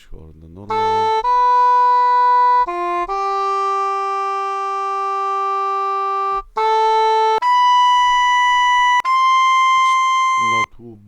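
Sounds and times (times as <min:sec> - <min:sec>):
english horn notes: 0:00.7 - 0:10.7.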